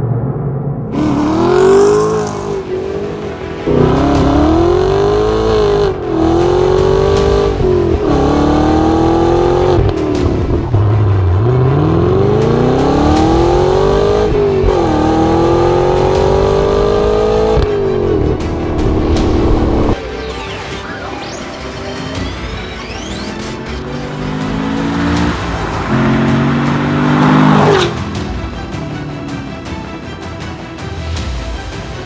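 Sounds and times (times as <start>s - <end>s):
car engine accelerating hard: 0.0s - 20.0s, 20.8s - 30.9s.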